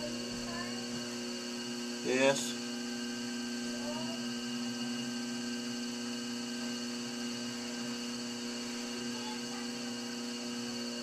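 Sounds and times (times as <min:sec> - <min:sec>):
potter's wheel electrical hum: 0:00.0 - 0:11.0.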